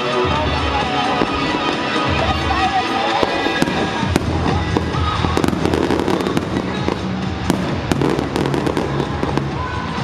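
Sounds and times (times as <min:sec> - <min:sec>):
firework crackles: 0:00.8 - 0:10.0.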